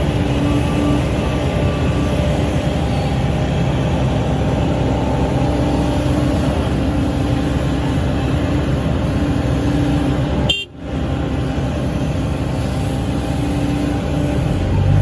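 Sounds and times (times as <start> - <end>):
excavator diesel engine and hydraulics: 0.0 - 15.0.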